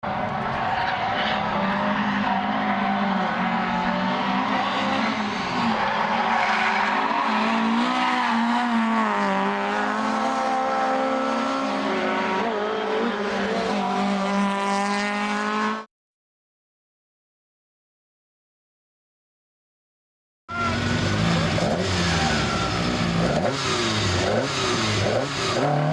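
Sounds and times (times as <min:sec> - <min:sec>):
rally car engine revving: 0:00.3 - 0:15.9, 0:20.5 - 0:25.9.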